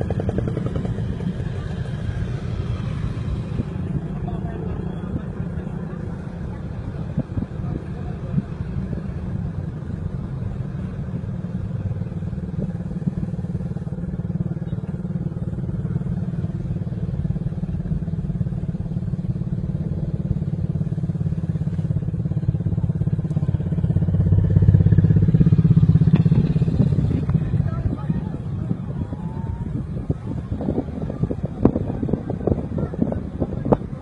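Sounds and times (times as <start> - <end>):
road noise: 0.0 - 34.0
vehicle engine running: 0.0 - 34.0.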